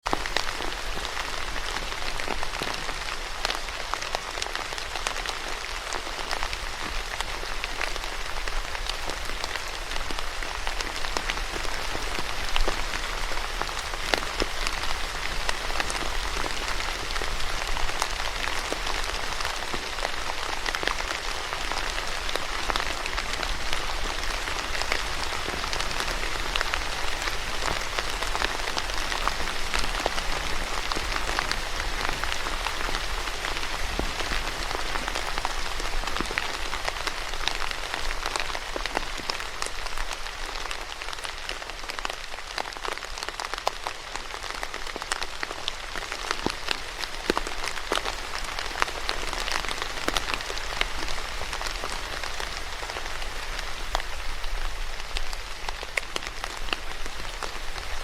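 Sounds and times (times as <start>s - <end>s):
steady rain falling: 0.0s - 58.0s
raindrops ticking on a surface: 0.1s - 58.0s.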